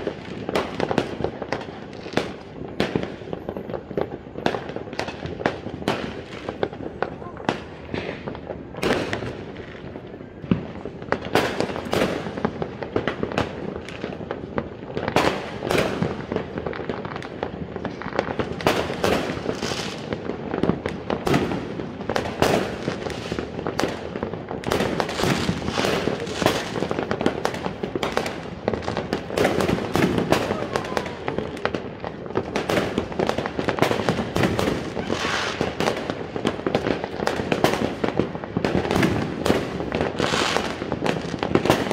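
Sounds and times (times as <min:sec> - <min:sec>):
fireworks and firecrackers banging: 0:00.0 - 0:41.9.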